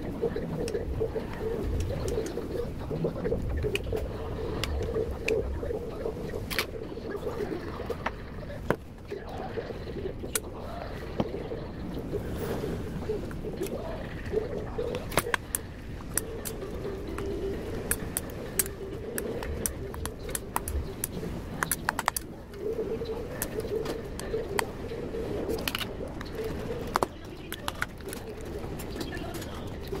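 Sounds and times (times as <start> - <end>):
low wavering hum: 0.0 - 30.0.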